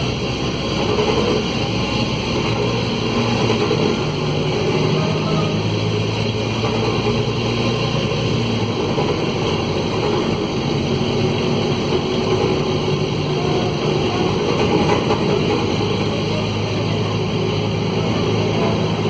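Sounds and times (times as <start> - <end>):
broken exhaust noise: 0.0 - 19.0
diesel bus engine running: 0.0 - 19.0.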